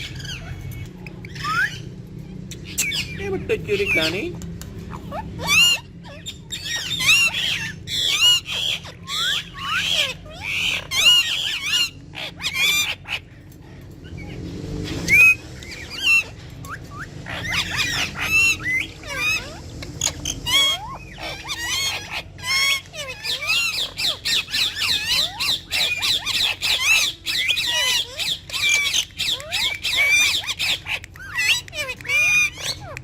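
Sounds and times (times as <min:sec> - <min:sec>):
parrots chattering and squawking: 0:00.0 - 0:33.0.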